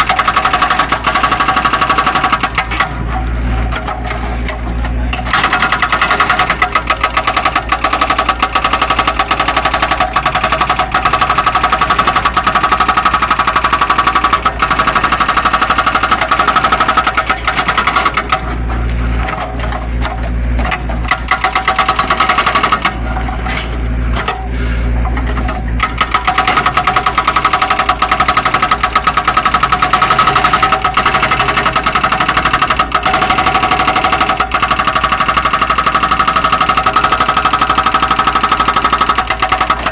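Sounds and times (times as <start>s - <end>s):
excavator engine and hydraulics rattling: 0.0s - 39.9s.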